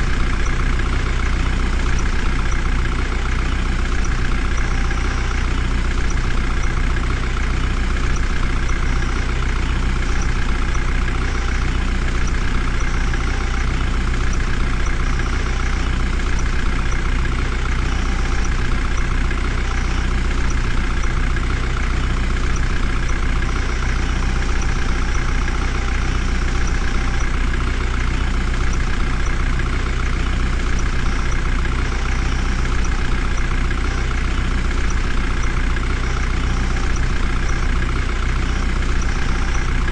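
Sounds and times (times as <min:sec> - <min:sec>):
heavy vehicle engine droning: 0:00.0 - 0:39.9.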